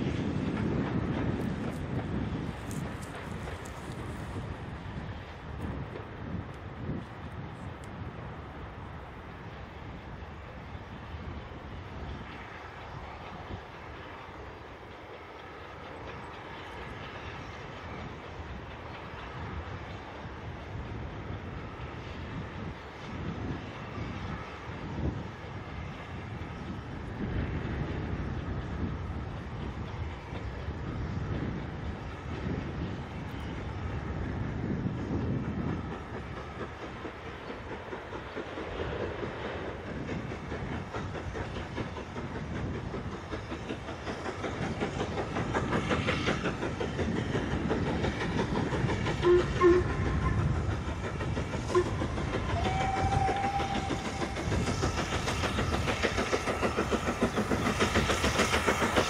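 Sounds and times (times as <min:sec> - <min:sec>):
steam train running: 0:00.0 - 0:59.0.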